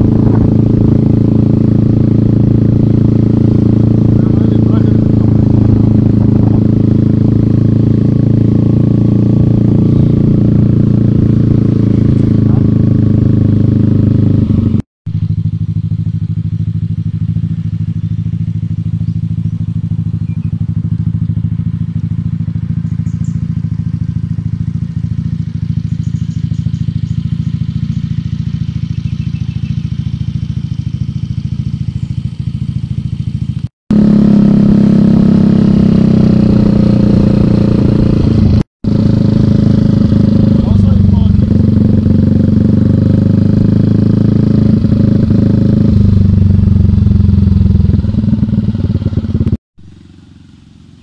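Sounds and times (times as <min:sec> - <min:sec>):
motorbike engine humming: 0:00.0 - 0:51.0.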